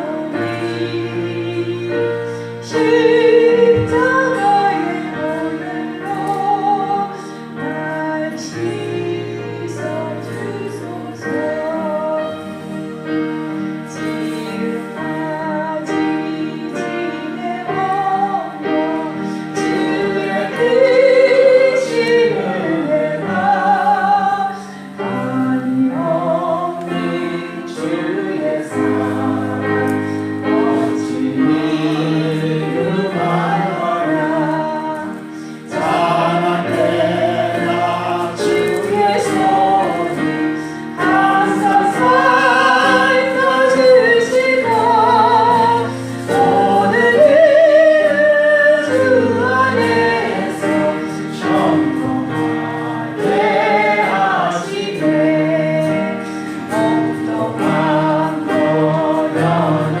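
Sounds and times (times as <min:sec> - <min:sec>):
group singing a hymn: 0:00.0 - 1:00.0
held instrumental chords: 0:00.0 - 1:00.0.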